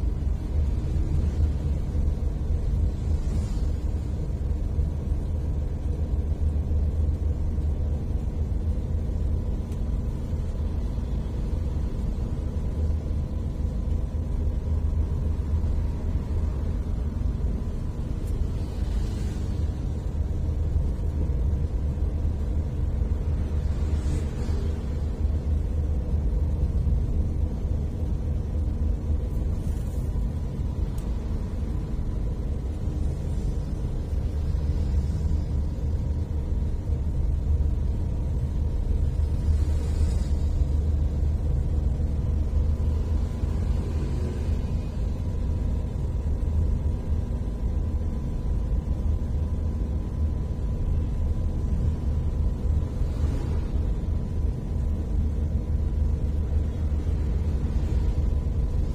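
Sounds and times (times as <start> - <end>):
car engine and tyres rumbling: 0.0 - 58.9
faint steady whine: 0.0 - 58.9.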